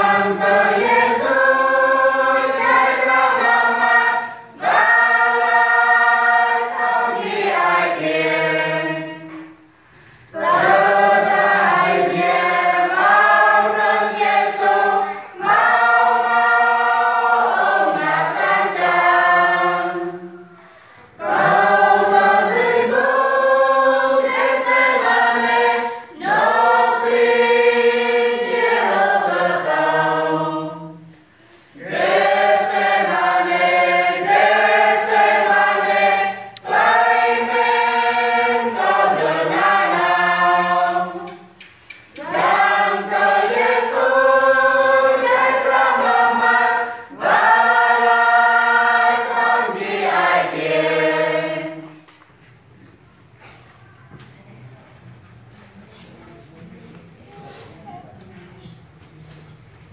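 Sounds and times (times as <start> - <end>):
choir singing a hymn: 0.0 - 52.1.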